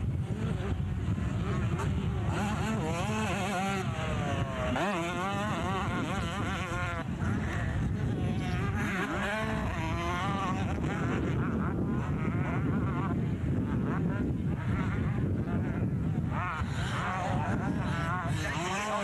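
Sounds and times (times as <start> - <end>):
motocross bike engines racing: 0.0 - 19.0.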